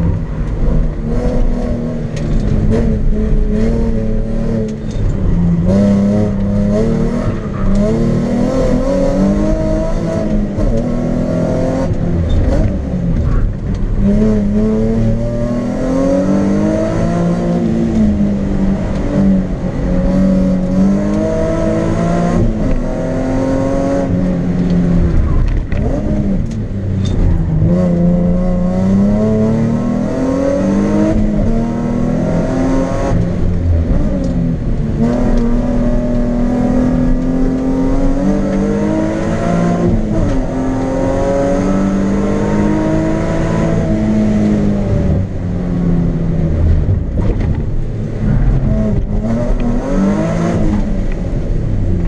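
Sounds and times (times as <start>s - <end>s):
car engine revving through gears: 0.0s - 52.0s.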